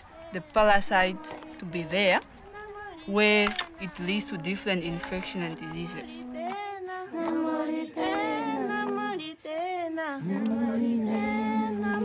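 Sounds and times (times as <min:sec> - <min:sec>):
women singing a cappella: 0:00.0 - 0:12.0.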